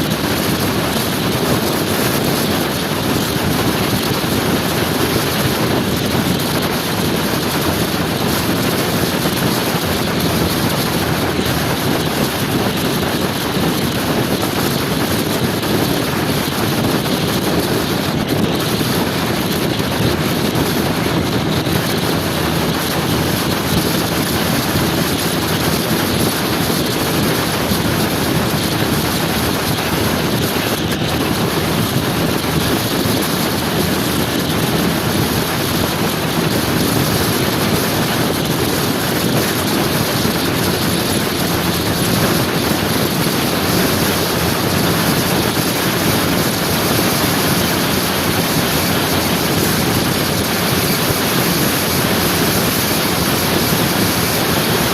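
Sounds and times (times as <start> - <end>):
motor scooter engine: 0.0 - 54.9
wind rush on microphone: 0.0 - 54.9.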